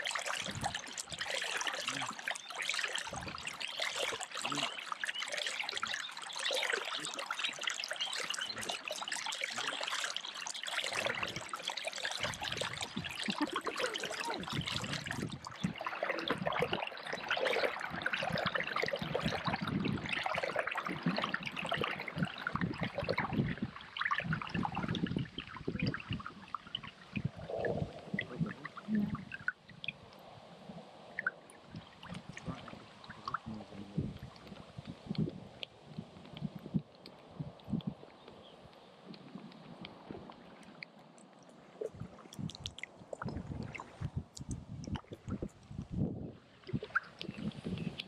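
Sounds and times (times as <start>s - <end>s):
paddle water splashing and dripping: 0.0s - 48.0s.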